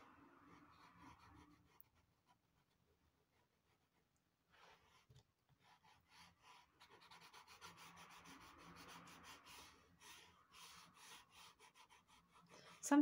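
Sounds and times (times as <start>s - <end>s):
pencil scribbling on paper: 0.4s - 13.0s.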